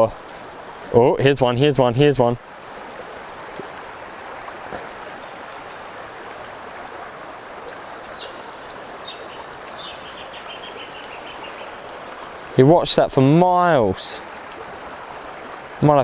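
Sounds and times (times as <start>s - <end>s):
fast-flowing stream rushing: 0.0s - 16.0s.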